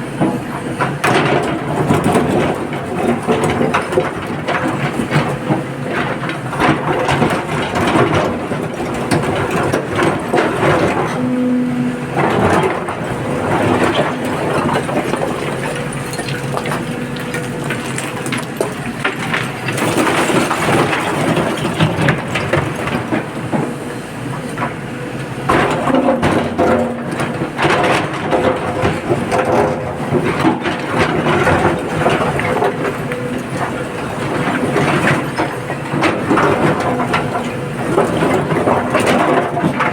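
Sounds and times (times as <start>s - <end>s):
excavator engine hum: 0.0s - 39.9s.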